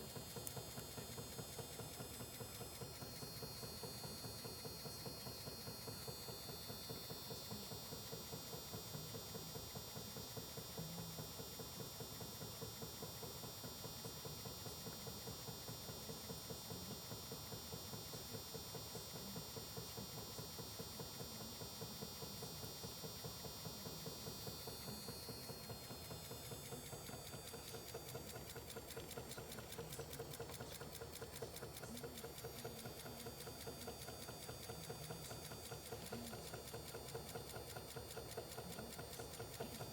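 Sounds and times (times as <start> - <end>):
small motor ticking: 0.0 - 39.9.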